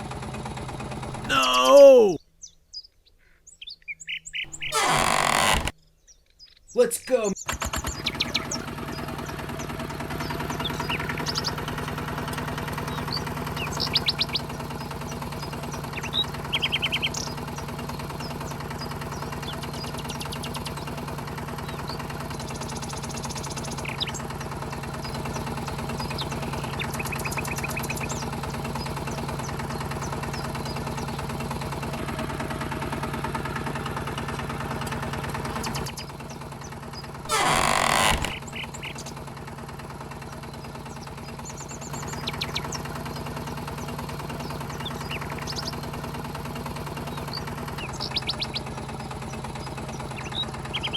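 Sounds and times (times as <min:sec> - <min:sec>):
small motor humming: 0:04.4 - 0:05.8, 0:07.5 - 0:50.9.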